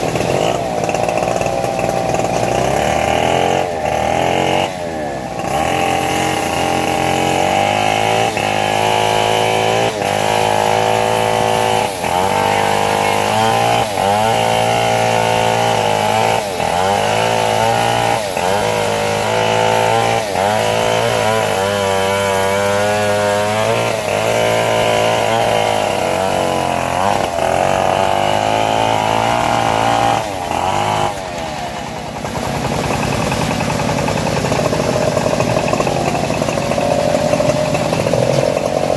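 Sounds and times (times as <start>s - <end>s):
band blade cutting wood: 0.0s - 38.9s
sawmill engine running: 0.0s - 38.9s.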